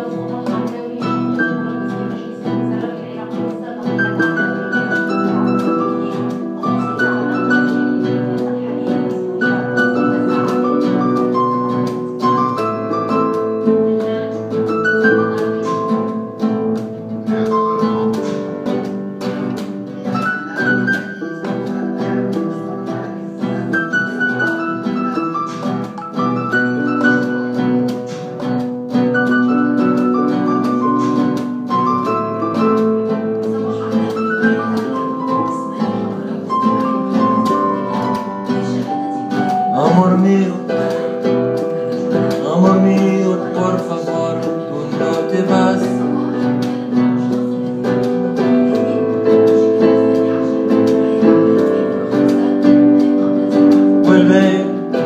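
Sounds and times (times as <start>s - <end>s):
acoustic guitar: 0.0s - 55.0s
electronic keyboard melody: 0.0s - 55.0s.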